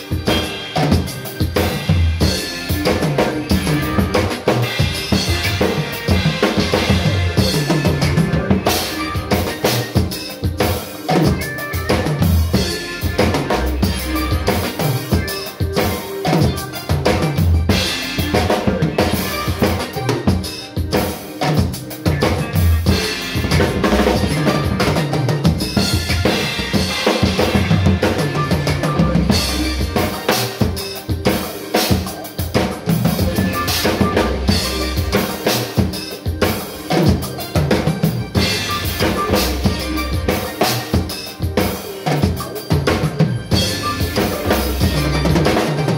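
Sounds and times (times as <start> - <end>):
acoustic drum kit groove: 0.0 - 45.9.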